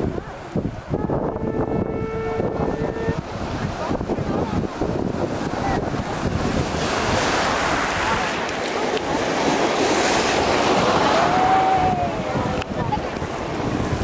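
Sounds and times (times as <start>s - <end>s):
surf washing in shallows: 0.0s - 14.0s
wind buffeting microphone: 0.0s - 14.0s.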